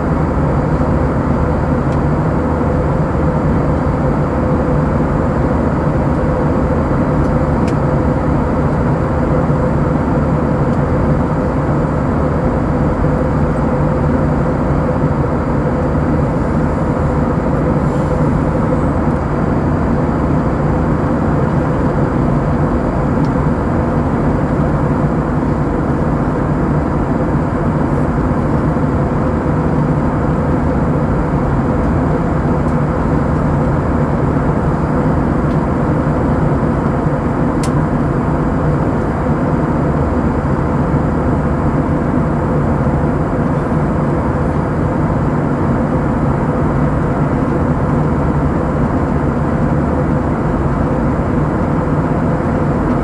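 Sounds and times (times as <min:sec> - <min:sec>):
airplane cabin engine drone: 0:00.0 - 0:53.0.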